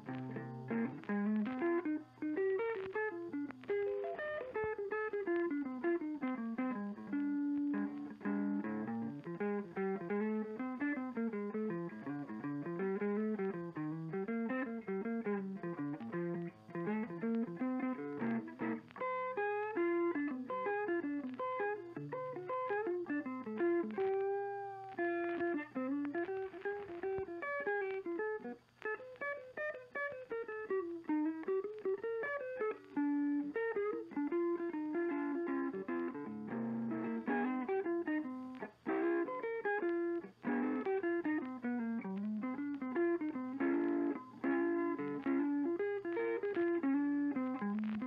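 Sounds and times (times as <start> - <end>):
plucked guitar melody: 0.0 - 48.0.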